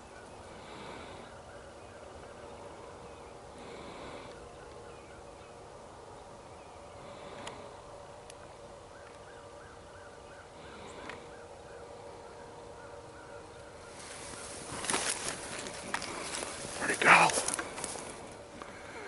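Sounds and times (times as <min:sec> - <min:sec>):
distant bird calling: 0:00.0 - 0:19.0
low steady hum: 0:00.0 - 0:19.0.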